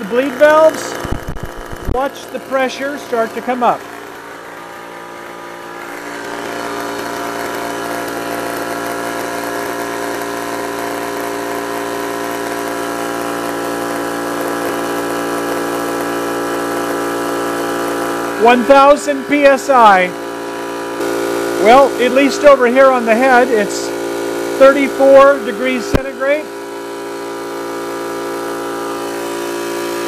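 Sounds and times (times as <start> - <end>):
air compressor running: 0.0 - 30.0.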